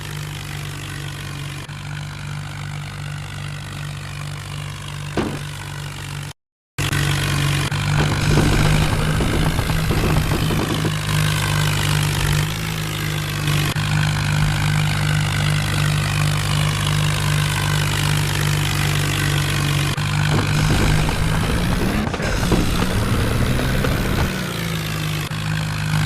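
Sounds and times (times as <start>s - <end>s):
tractor engine idling and revving: 0.0s - 26.0s.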